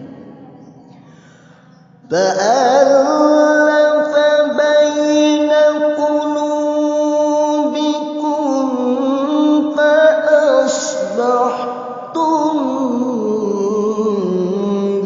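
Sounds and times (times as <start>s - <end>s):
person reciting melodically: 0.0s - 15.0s.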